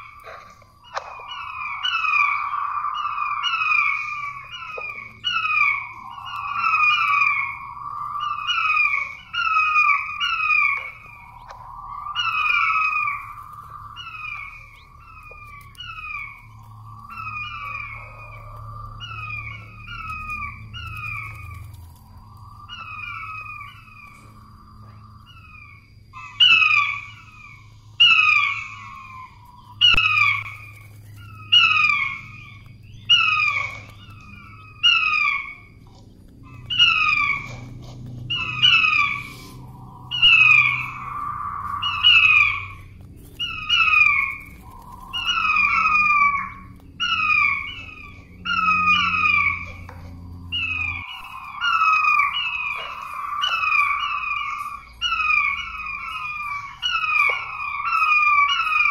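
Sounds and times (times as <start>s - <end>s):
quail calling: 0.0s - 58.9s.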